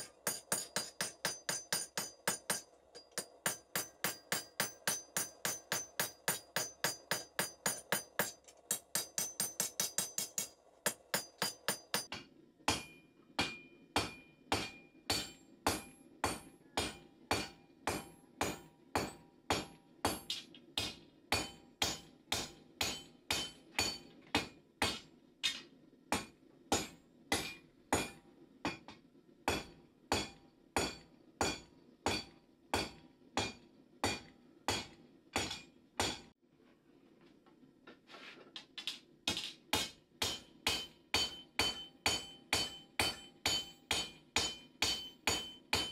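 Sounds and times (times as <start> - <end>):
hammer striking anvil: 0.0 - 25.0, 26.2 - 28.8, 29.5 - 36.3, 39.3 - 45.9.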